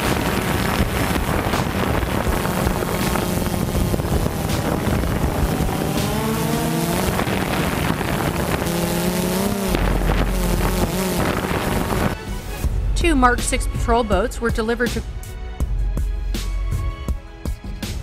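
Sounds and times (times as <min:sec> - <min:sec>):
wind noise on microphone: 0:00.0 - 0:14.5
boat engines and churning wake: 0:00.0 - 0:15.0.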